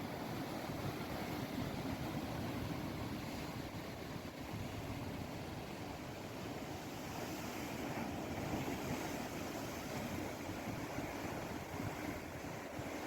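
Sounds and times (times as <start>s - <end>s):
sea rushing: 0.0s - 13.0s
wind: 0.0s - 13.0s.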